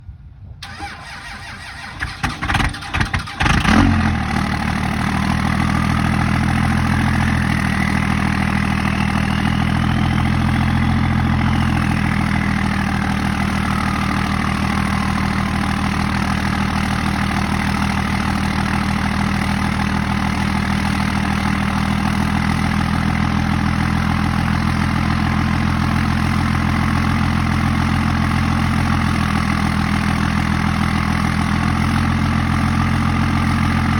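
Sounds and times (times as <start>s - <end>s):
diesel engine idling: 0.6s - 33.9s.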